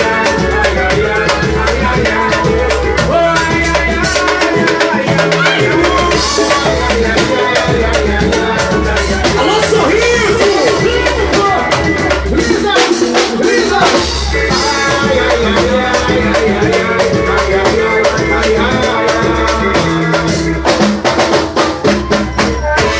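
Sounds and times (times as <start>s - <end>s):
bass notes: 0.0s - 22.9s
drum kit beat: 0.0s - 22.9s
live band music: 0.0s - 22.9s.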